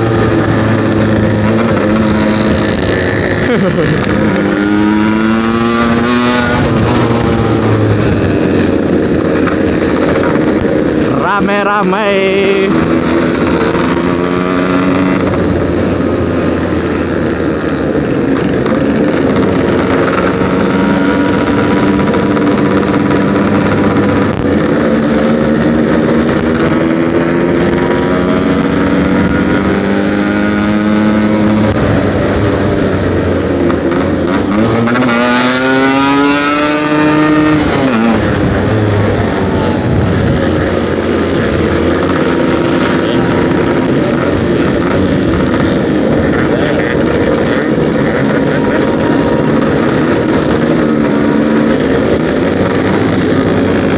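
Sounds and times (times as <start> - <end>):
two-stroke motorcycle engine: 0.0 - 53.9.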